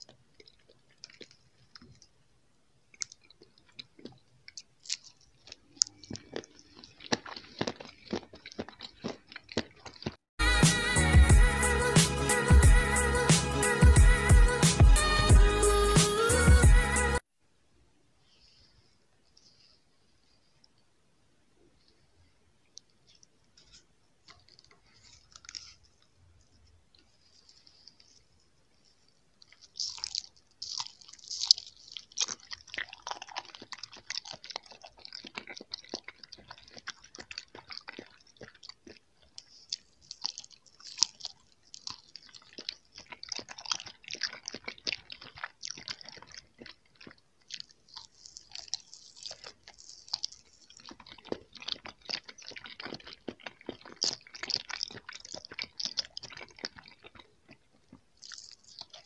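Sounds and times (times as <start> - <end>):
chewing gummy candy: 0.0 - 16.6, 21.6 - 59.0.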